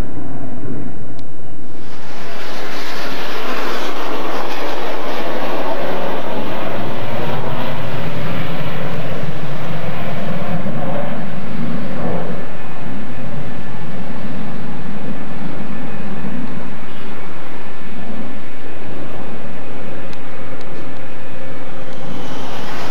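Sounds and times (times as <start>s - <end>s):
jet passing overhead: 0.0s - 22.9s.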